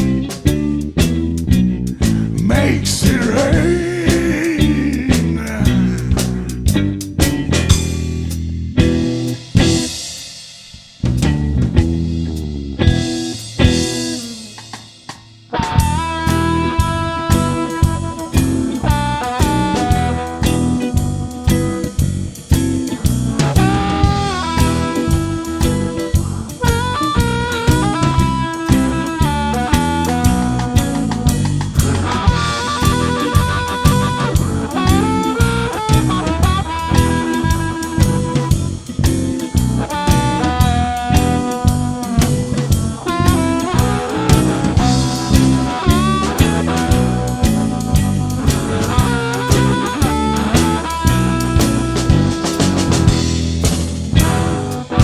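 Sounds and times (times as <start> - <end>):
lead melody with bending notes: 0.0 - 10.2, 15.5 - 55.0
bass and guitar: 0.0 - 55.0
drum kit beat: 0.0 - 55.0.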